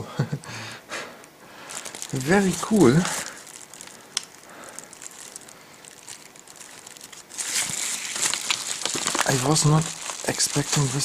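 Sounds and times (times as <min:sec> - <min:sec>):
packaging wrap crinkling: 0:01.5 - 0:11.0.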